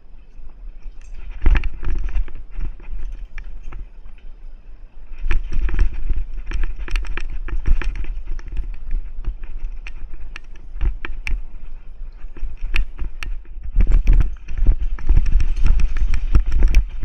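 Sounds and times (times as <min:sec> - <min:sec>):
low rumble on the microphone: 0:00.0 - 0:17.0
mountain bike rattling on dirt: 0:01.0 - 0:04.1, 0:05.0 - 0:17.0.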